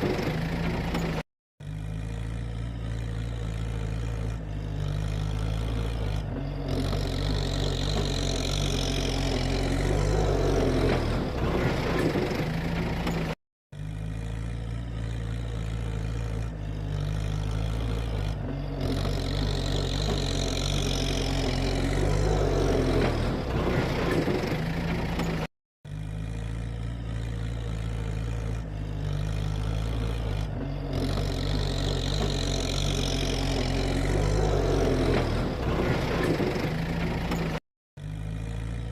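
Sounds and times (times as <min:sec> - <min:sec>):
tractor engine working: 0:00.0 - 0:38.9.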